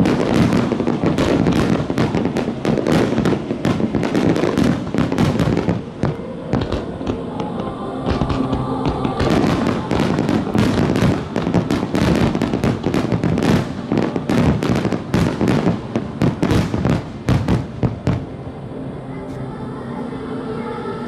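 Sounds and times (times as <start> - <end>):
fireworks bangs and crackling: 0.0 - 18.4.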